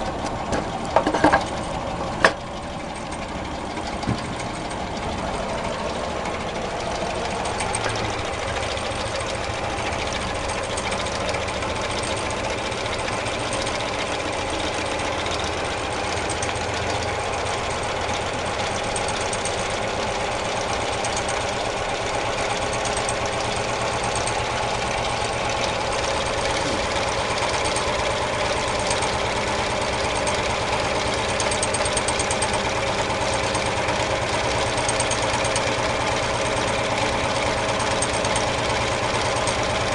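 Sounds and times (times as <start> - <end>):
stirling engine clattering: 0.0 - 39.9.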